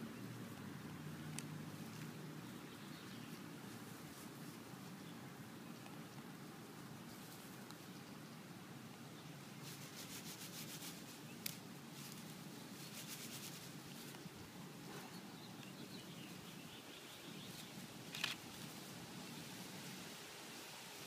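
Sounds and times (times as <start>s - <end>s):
rustling of long grass: 0.0s - 21.0s.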